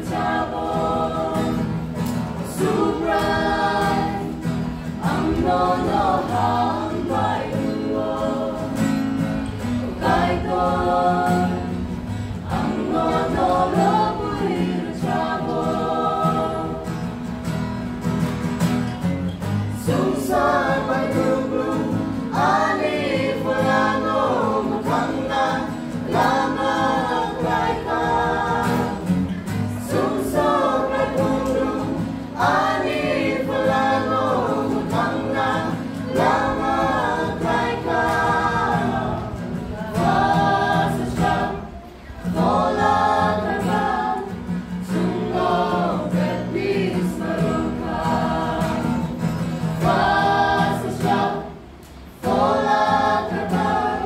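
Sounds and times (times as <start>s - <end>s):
acoustic guitar: 0.0s - 54.0s
group singing in harmony: 0.0s - 54.0s.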